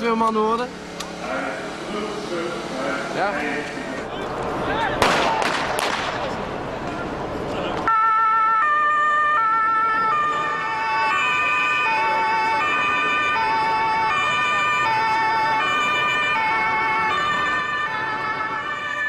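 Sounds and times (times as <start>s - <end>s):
emergency vehicle sirens: 0.0s - 19.0s.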